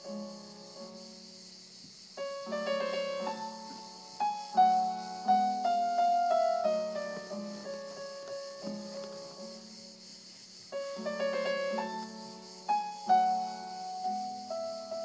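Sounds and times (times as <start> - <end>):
piano with orchestra: 0.0 - 15.0.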